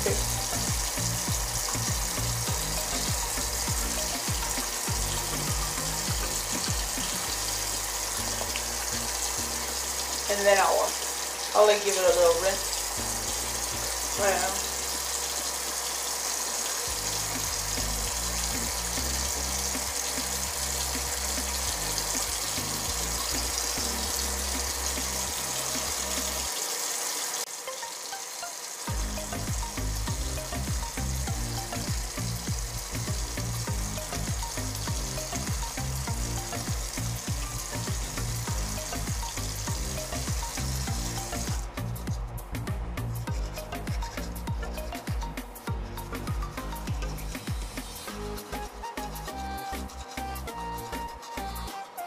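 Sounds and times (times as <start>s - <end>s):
background music with bass line: 0.0s - 10.8s, 16.9s - 26.5s, 28.9s - 52.0s.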